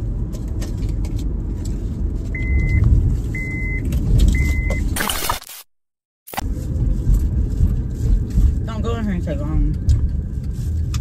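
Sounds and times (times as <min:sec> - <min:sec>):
car driving rumble inside cabin: 0:00.0 - 0:05.0, 0:06.4 - 0:11.0.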